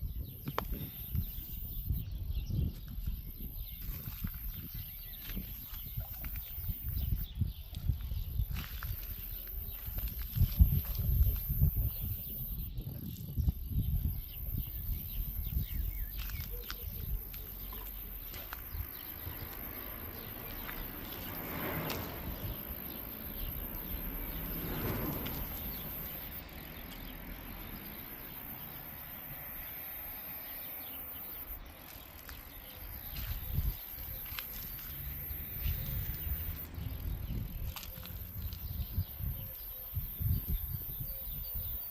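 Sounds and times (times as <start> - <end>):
outdoor background noise: 0.0 - 41.9.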